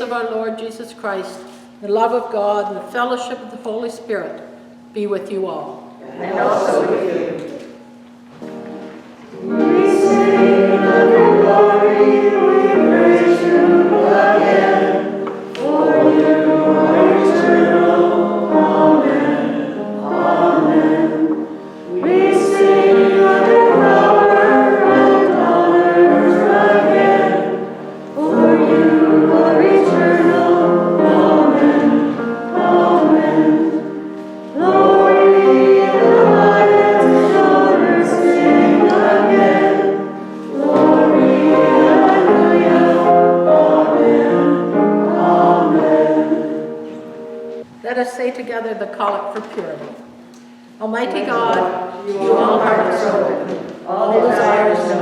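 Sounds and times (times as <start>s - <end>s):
voices singing a hymn: 6.0s - 7.8s, 8.4s - 47.7s, 50.9s - 55.0s.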